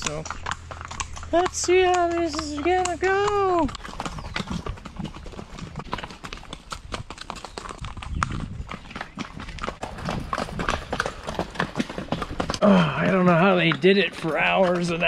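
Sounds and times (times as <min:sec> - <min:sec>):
horse hooves on stony trail: 0:00.0 - 0:15.0.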